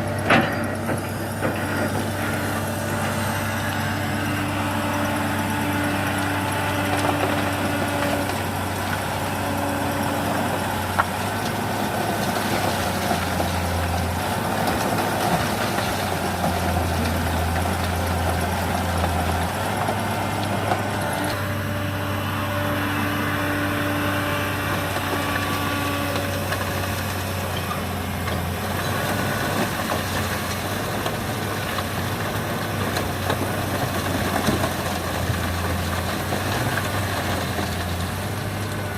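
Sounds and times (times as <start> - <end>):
heavy diesel engines idling: 0.0 - 38.9.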